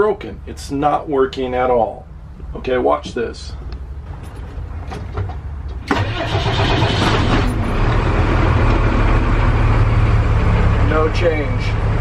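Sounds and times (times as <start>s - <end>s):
van engine starting and idling: 2.3s - 12.0s.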